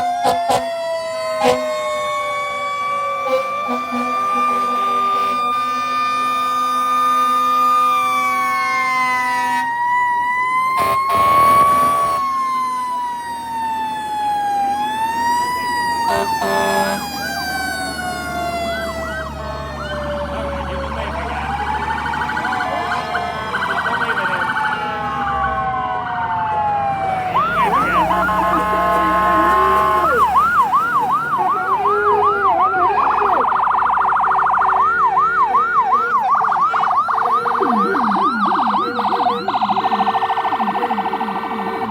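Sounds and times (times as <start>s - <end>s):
emergency sirens wailing: 0.0s - 41.9s
fast siren yelp: 0.0s - 41.9s.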